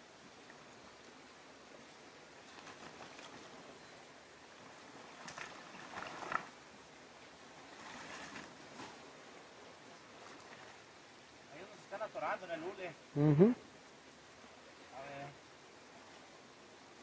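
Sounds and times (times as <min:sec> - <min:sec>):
river flowing over shallows: 0:00.0 - 0:17.0.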